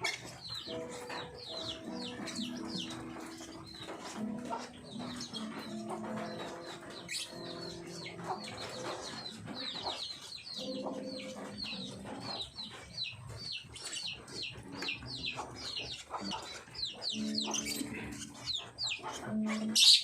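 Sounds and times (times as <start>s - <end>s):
lovebirds chirping: 0.0s - 20.0s.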